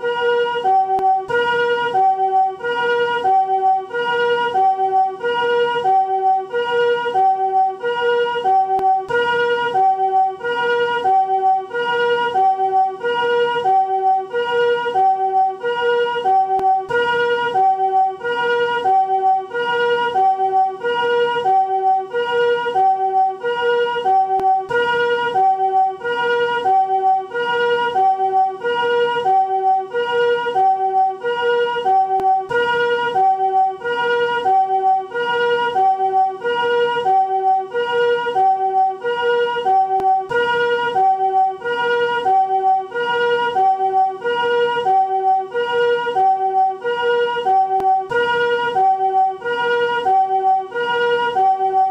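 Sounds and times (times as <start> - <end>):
two-tone ambulance siren: 0.0 - 51.9.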